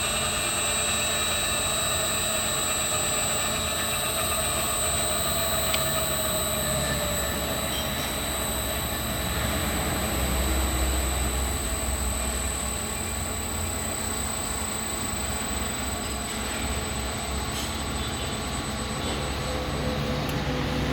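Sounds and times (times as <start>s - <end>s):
industrial machinery whine: 0.0s - 20.9s.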